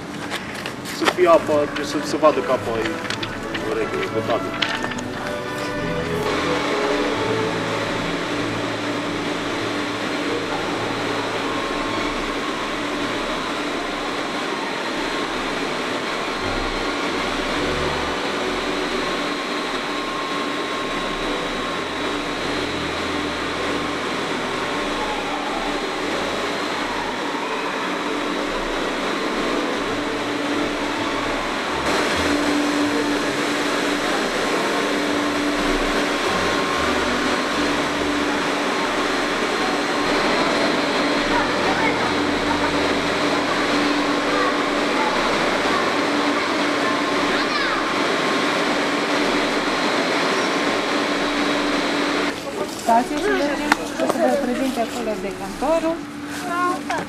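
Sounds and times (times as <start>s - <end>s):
water pumps droning: 0.0s - 57.0s.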